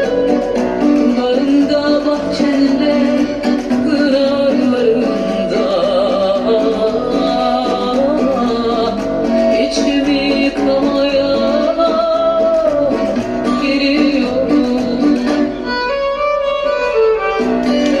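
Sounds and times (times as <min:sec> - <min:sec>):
person singing: 0:00.0 - 0:15.7
plucked strings: 0:00.0 - 0:18.0
violin: 0:00.0 - 0:18.0.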